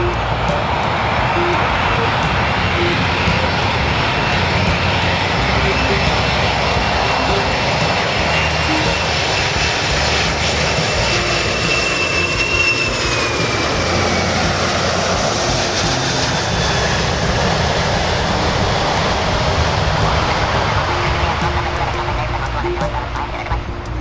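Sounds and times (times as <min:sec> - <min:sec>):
airplane engines with high whine: 0:00.0 - 0:24.0.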